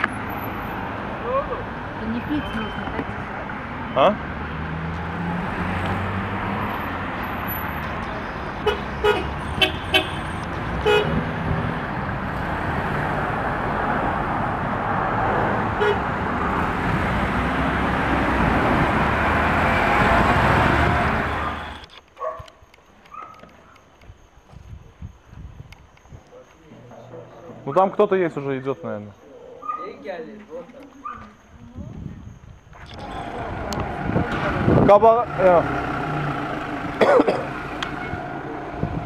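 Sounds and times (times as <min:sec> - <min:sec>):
road traffic noise: 0:00.0 - 0:24.7, 0:26.3 - 0:39.0.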